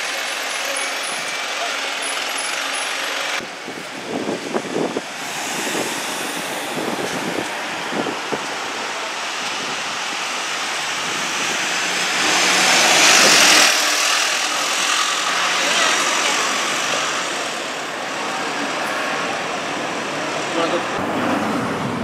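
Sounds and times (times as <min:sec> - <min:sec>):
bus engine running: 0:00.0 - 0:22.0
loud hiss of passing bus: 0:00.0 - 0:22.0.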